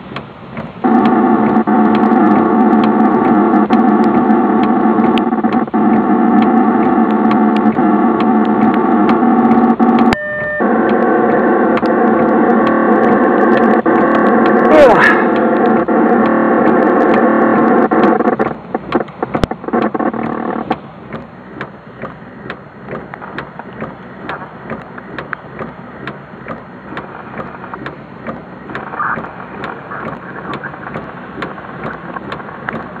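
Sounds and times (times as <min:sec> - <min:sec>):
loud droning: 0:00.0 - 0:33.0
raindrop ticks near microphone: 0:00.1 - 0:10.2, 0:10.8 - 0:33.0.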